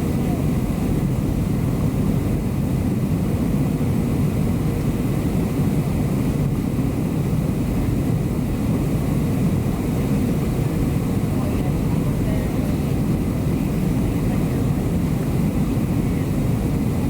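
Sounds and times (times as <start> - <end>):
jet engines and airflow rumble: 0.0 - 17.0.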